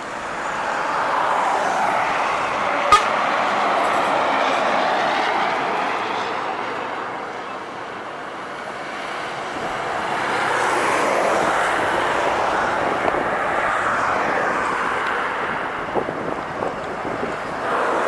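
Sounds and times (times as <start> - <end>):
heavy trucks passing: 0.0 - 18.0.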